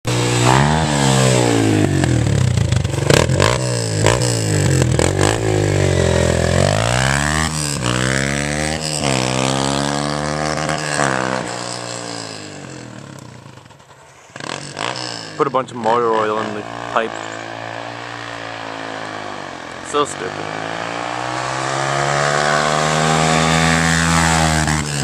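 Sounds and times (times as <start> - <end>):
vehicle engine revving: 0.1 - 25.0.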